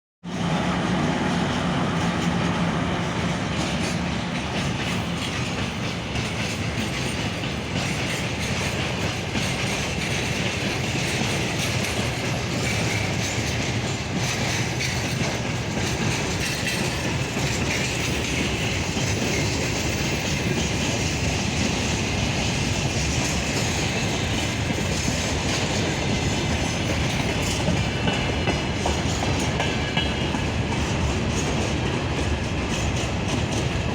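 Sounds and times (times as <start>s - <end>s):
diesel locomotive engines: 0.2s - 33.9s
wheels clicking over rail joints: 0.4s - 33.9s.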